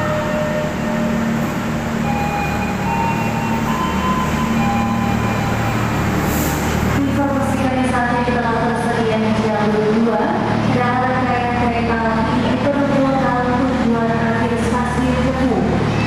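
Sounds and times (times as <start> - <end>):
train rumbling on tracks: 0.0 - 16.0.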